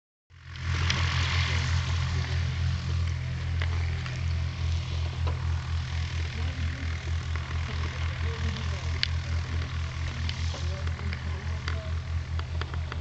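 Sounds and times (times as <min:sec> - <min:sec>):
propeller aircraft engine drone: 0:00.3 - 0:13.0.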